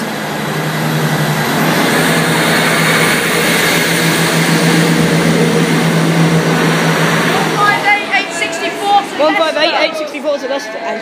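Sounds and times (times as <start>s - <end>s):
diesel train engine droning: 0.0s - 11.0s.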